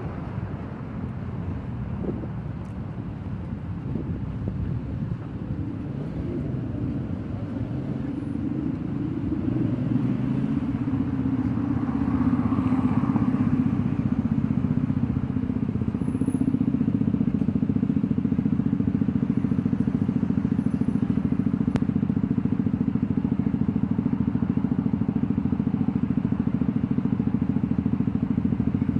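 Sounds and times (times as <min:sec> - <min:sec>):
engine running steadily: 0:00.0 - 0:28.9.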